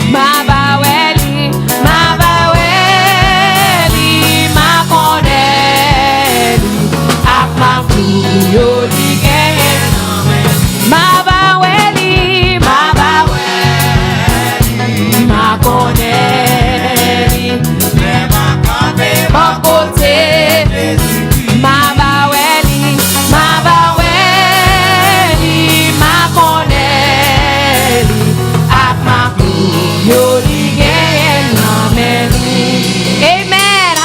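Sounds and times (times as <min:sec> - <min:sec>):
church band playing gospel music: 0:00.0 - 0:34.0.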